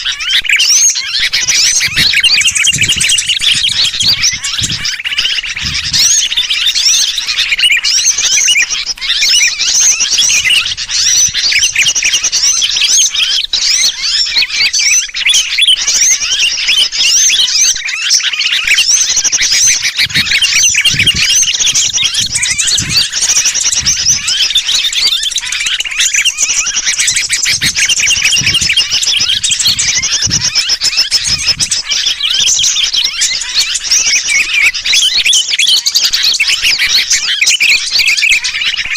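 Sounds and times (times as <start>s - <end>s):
bird distress calls: 0.0s - 38.9s
small birds chirping: 0.0s - 38.9s.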